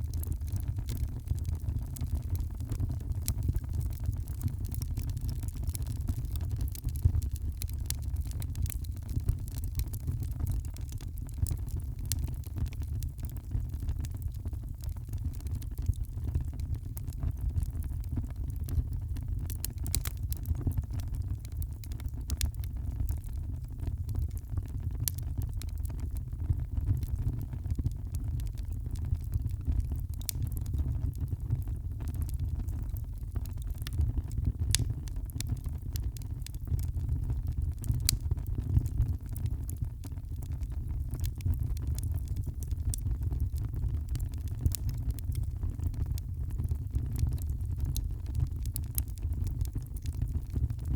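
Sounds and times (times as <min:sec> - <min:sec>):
fire low rumble: 0:00.0 - 0:50.9
wood fire crackling and popping: 0:00.0 - 0:50.9.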